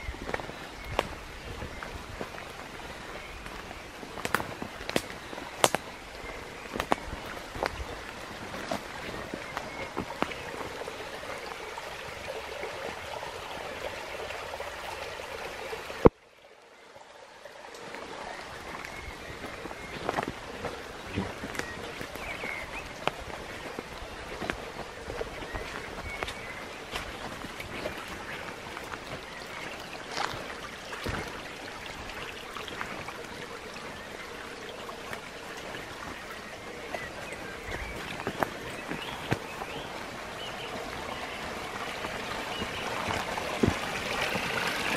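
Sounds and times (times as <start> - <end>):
stream trickling: 0.0 - 44.9.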